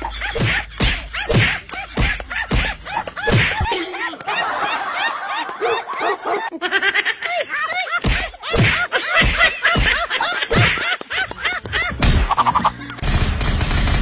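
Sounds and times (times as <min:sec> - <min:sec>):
person laughing: 0:00.0 - 0:13.0.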